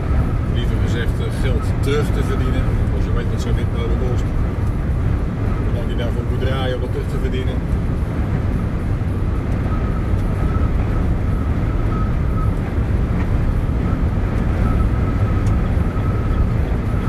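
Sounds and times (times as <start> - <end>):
truck engine and tyres driving: 0.0 - 17.0.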